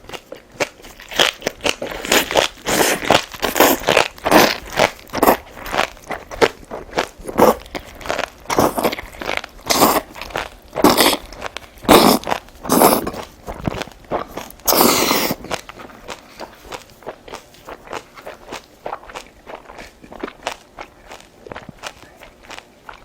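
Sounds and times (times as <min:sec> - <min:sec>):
crunching and chewing food: 0:00.0 - 0:23.0.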